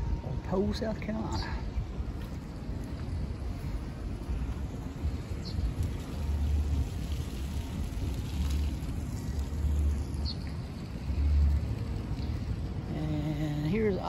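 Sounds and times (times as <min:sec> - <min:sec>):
steady outdoor hiss: 0:00.0 - 0:14.0
wind buffeting microphone: 0:00.0 - 0:14.0.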